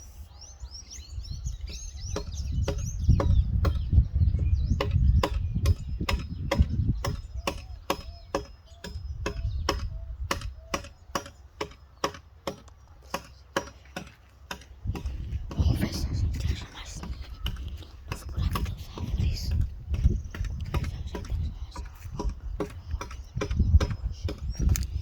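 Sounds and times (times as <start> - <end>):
wind on microphone: 0.0 - 11.0, 14.7 - 25.0
bird chirps: 0.0 - 13.6, 15.5 - 25.0.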